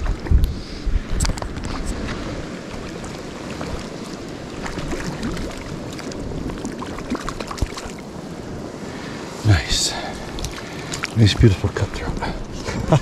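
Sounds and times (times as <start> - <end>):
water sloshing and splashing: 0.0 - 8.8, 10.0 - 12.4
wind on microphone: 0.0 - 13.0.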